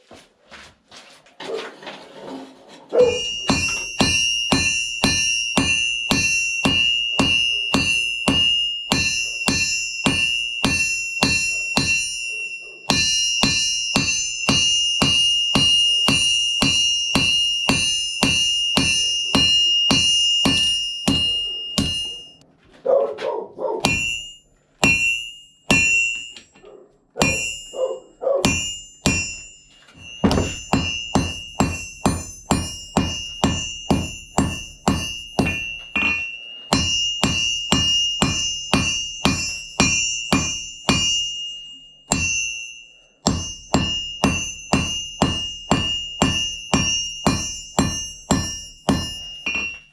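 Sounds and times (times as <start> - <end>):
hammer striking steel on anvil: 3.0 - 22.4, 23.8 - 26.6, 27.2 - 49.9.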